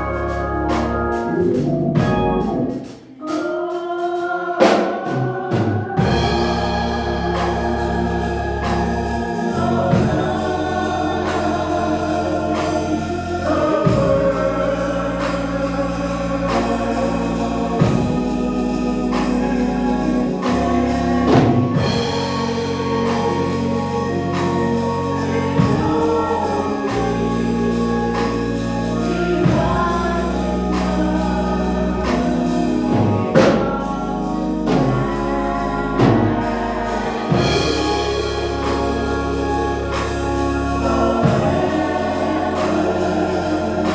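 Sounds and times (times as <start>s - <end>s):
choir singing gospel: 0.0s - 43.9s
organ: 0.0s - 43.9s.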